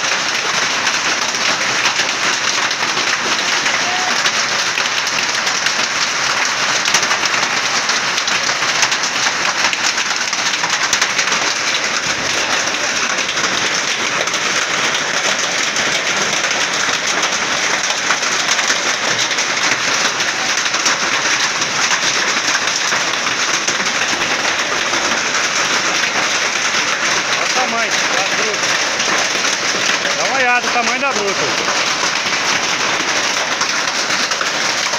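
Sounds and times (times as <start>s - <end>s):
hail and heavy rain falling: 0.0s - 34.9s.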